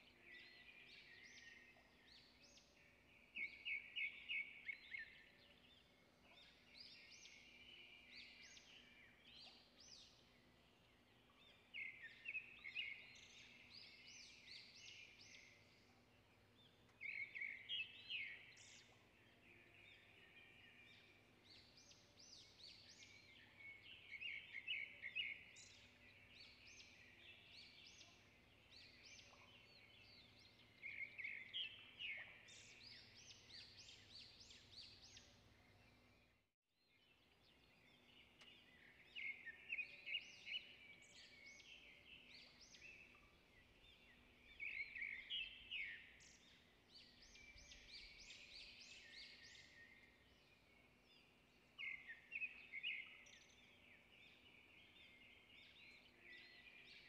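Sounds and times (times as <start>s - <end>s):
faint bird chirping: 0.0s - 57.0s.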